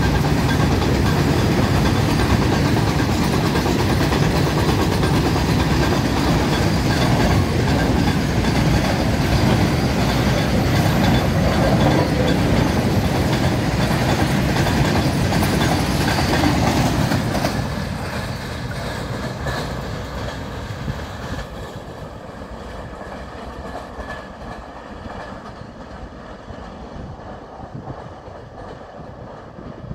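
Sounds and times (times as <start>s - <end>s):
freight train wagons rolling past: 0.0s - 29.9s.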